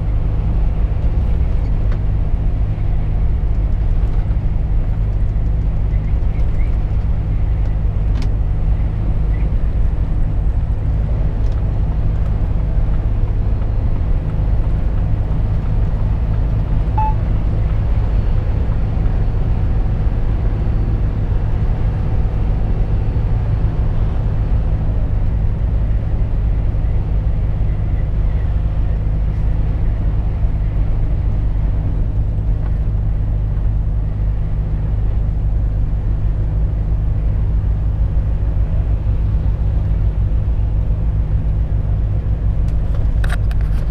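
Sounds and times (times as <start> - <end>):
road noise: 0.0 - 43.9
truck diesel engine drone: 0.0 - 43.9.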